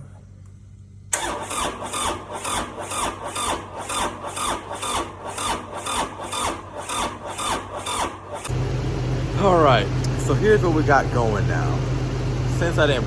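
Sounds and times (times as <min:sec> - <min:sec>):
diesel engine cranking slowly: 0:01.1 - 0:13.0.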